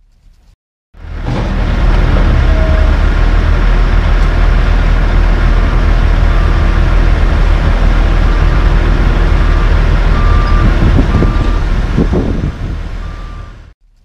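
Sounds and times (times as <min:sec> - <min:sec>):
diesel truck engine rumbling: 0:01.0 - 0:13.8.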